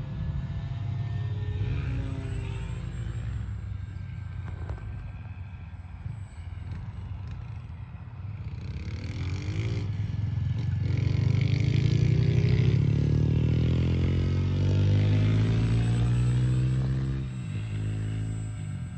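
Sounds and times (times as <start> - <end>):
model airplane motor passing: 0.0 - 18.9.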